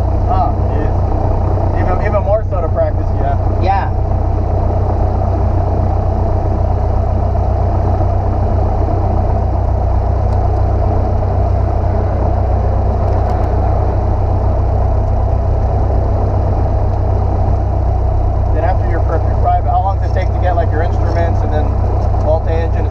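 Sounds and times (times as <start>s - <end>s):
airplane engine and propeller droning: 0.0s - 22.9s.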